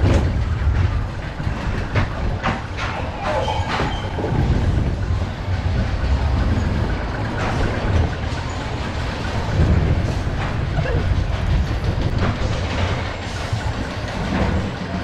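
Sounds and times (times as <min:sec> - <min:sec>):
coaster wheels rumbling on track: 0:00.0 - 0:15.0
rattles and clacks: 0:00.0 - 0:15.0.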